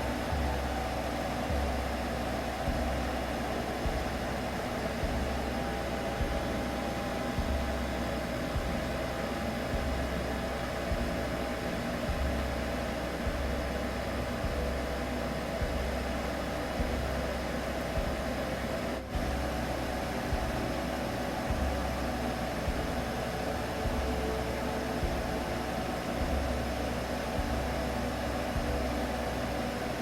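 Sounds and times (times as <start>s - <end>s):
droning hum: 0.0s - 30.0s
low throb: 0.0s - 30.0s
noise-like hiss: 0.0s - 30.0s.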